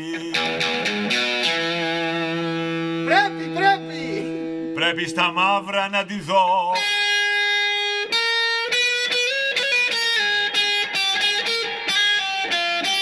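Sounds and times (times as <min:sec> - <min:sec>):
electric guitar lead line: 0:00.0 - 0:13.0.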